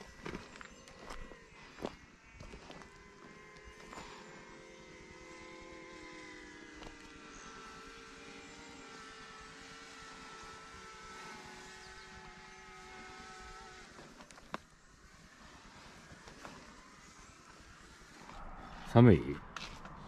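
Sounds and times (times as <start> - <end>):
motor droning hum: 0.0 - 20.0.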